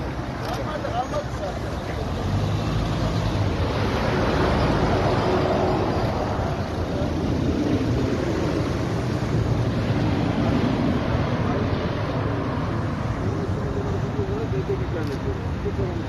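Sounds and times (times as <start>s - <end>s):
cars driving slowly past: 0.0s - 16.0s.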